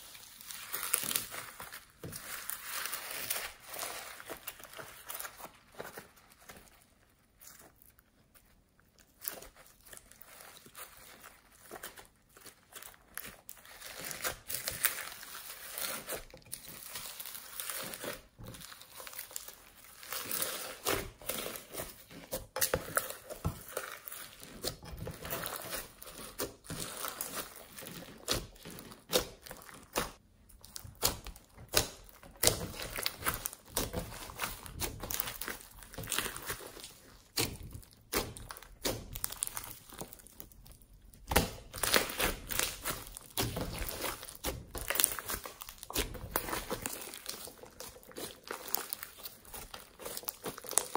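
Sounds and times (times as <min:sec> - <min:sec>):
slime squishing and crackling: 0:00.0 - 0:50.9.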